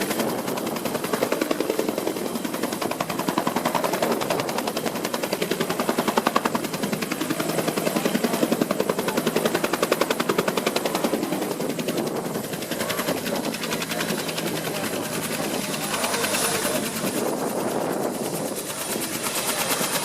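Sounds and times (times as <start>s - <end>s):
helicopter rotor blades beating: 0.0s - 20.0s.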